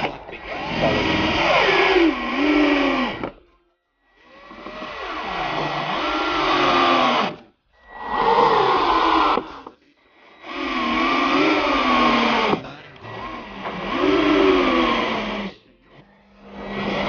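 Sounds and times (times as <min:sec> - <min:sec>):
cordless drill into timber: 0:00.0 - 0:03.4, 0:04.2 - 0:15.6, 0:16.4 - 0:17.0.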